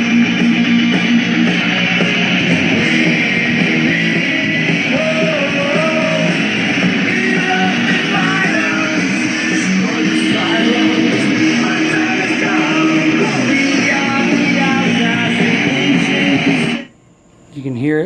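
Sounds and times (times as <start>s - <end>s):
rock music through speakers: 0.0s - 16.9s.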